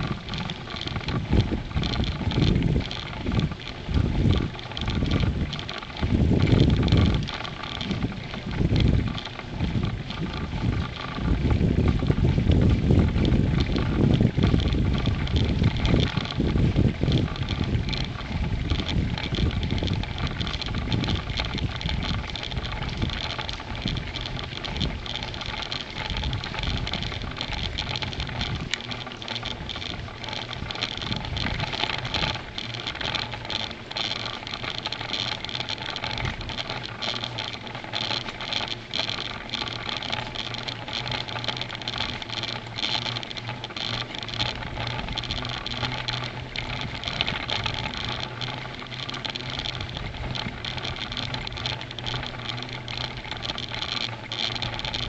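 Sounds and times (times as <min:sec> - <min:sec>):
bicycle tyre noise: 0:00.0 - 0:55.0
bike rattles and bumps: 0:00.0 - 0:55.0
steady low hum: 0:00.0 - 0:55.0
wind noise: 0:00.0 - 0:55.0.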